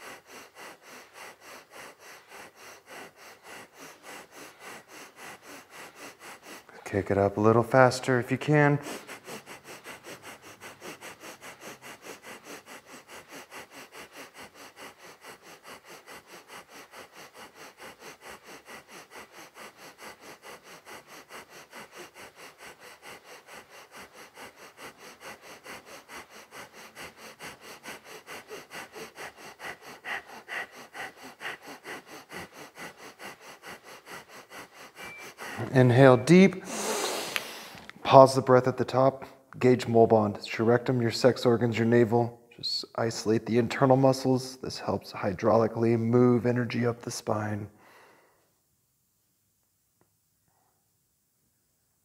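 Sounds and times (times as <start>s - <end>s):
rapid rhythmic nose breathing: 0.0s - 49.1s.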